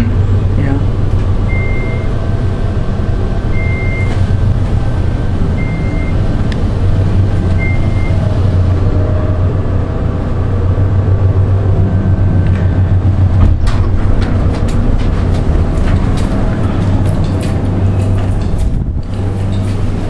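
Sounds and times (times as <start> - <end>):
elevator low rumble: 0.0 - 20.0.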